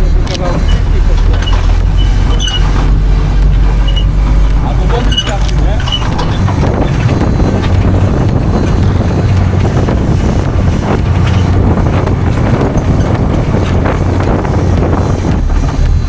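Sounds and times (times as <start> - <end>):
vehicle engine rumbling: 0.0 - 16.0
wind buffeting microphone: 0.0 - 16.0.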